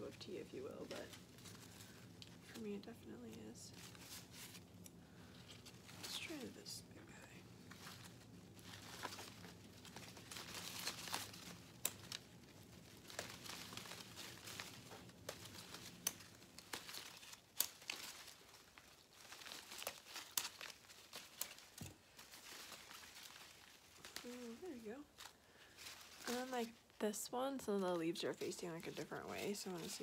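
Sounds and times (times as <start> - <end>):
artificial leaves rustling and crinkling: 0.0 - 30.0.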